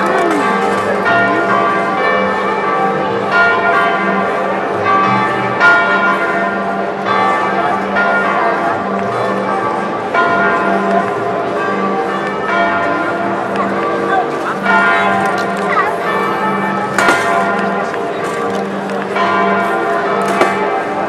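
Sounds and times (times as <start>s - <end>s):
bells ringing: 0.0s - 21.0s.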